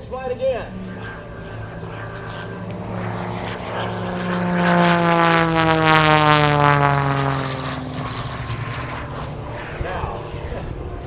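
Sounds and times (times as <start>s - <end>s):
propeller plane flying by: 0.0s - 11.0s.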